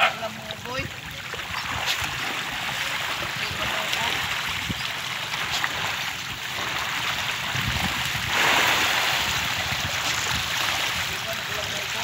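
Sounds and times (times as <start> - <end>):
fish splashing at water surface: 0.0 - 12.0.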